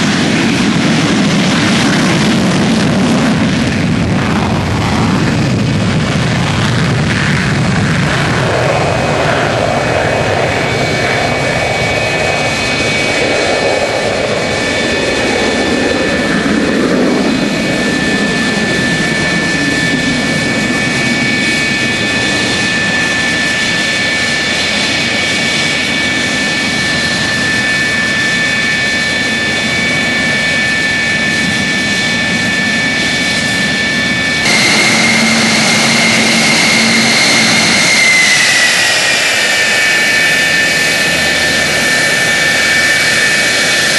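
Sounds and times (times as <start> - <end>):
high jet engine whine: 0.0 - 43.9
jet engine roar: 0.0 - 43.9.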